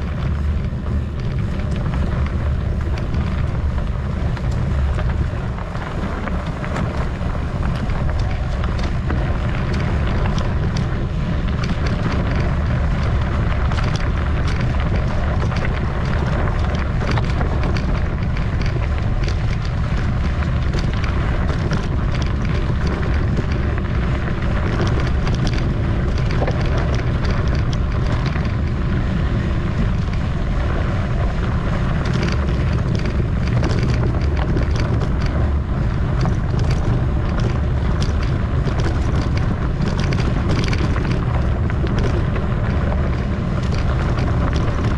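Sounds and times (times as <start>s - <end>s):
bike clicking and rattling: 0.0s - 44.9s
wind buffeting microphone: 0.0s - 44.9s.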